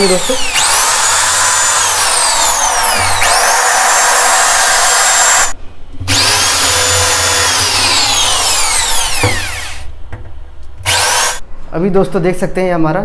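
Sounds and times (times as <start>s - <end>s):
electric drill whining: 0.0s - 9.9s, 10.8s - 11.4s.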